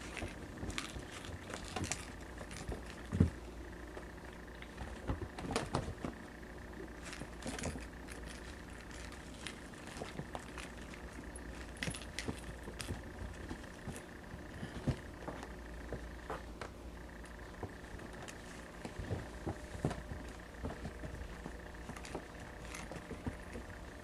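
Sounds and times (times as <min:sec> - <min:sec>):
kitten paws tapping and scratching: 0:00.0 - 0:24.0.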